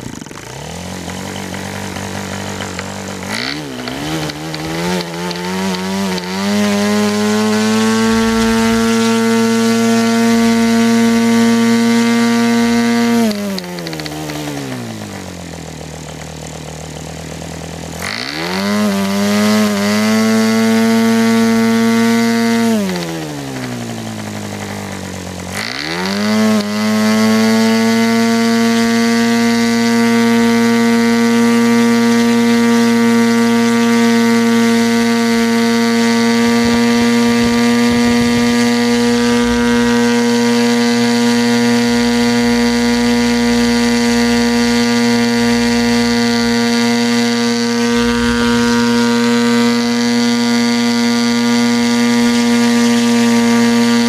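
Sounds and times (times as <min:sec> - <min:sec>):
model airplane engine: 0:00.0 - 0:54.0.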